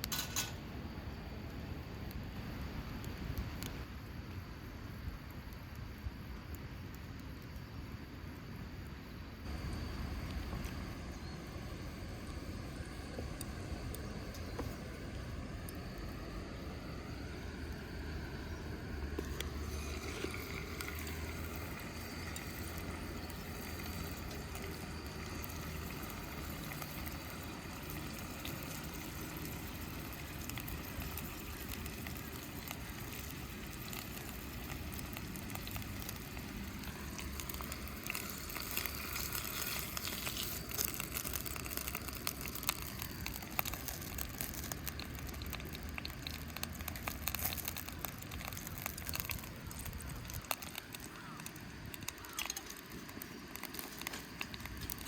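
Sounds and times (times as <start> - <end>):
fire crackling: 0.0 - 55.0
low rumble and hiss: 0.0 - 55.0
food sizzling: 9.4 - 55.0.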